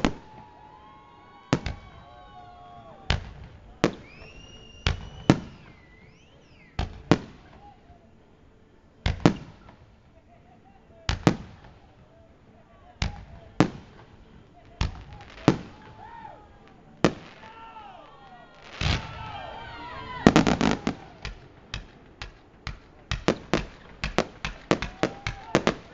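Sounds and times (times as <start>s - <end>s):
fireworks bangs: 0.0s - 7.8s, 9.0s - 10.4s, 11.0s - 12.2s, 12.9s - 25.9s
whistling fireworks: 0.0s - 25.9s.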